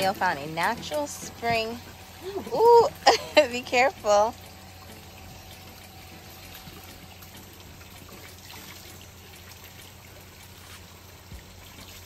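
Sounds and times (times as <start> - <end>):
spring water trickling: 0.0 - 12.0.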